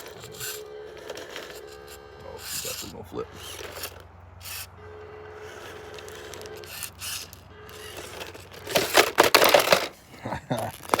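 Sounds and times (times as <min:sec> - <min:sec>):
plastic scraping and clattering on rock: 0:00.0 - 0:04.6, 0:05.5 - 0:11.0
small electric motor whining: 0:00.0 - 0:10.0.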